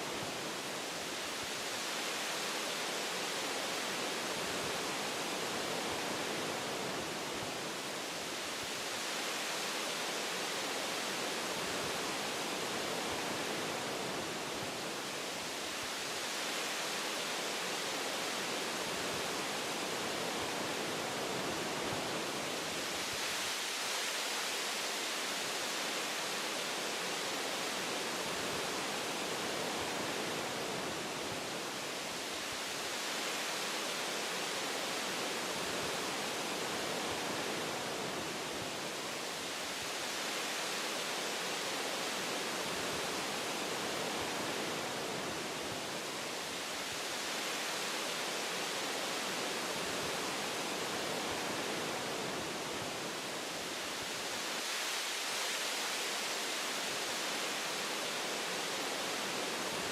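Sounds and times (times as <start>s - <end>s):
wind through tree branches: 0.0s - 59.9s.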